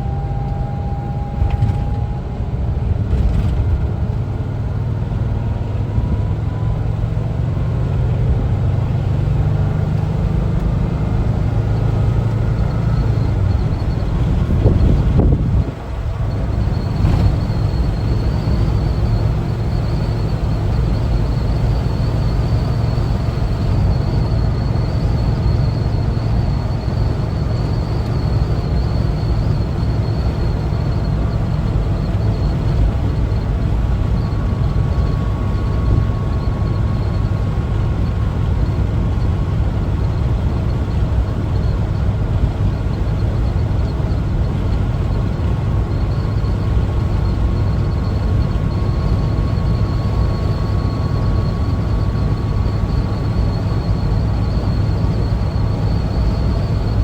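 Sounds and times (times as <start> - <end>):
faint high whine: 0.0 - 3.4, 11.5 - 57.0
road noise: 0.0 - 57.0
van engine droning: 0.0 - 57.0.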